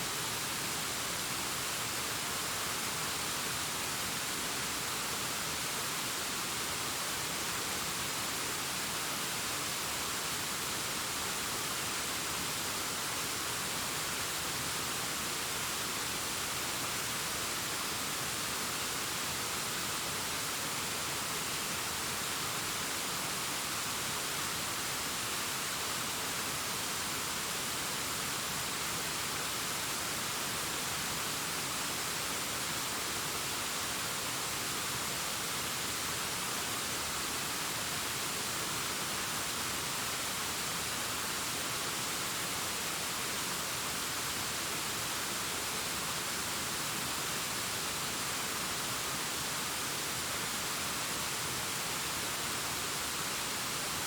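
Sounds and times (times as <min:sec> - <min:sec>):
distant waterfall rushing: 0:00.0 - 0:54.0.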